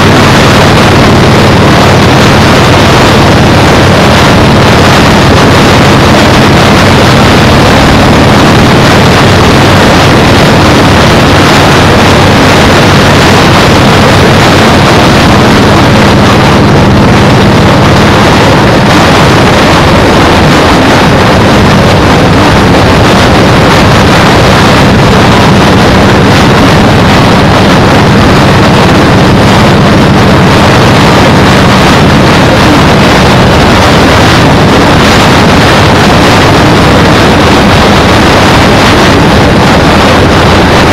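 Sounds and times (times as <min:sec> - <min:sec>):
motorcycle engine droning: 0:00.0 - 0:40.9
wind buffeting microphone: 0:00.0 - 0:40.9.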